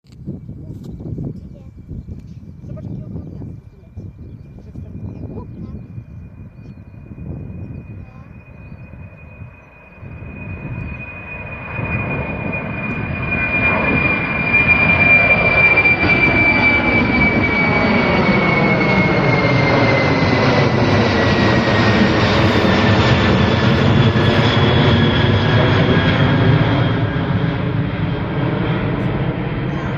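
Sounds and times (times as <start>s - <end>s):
jet engines at takeoff power: 0.2s - 29.9s.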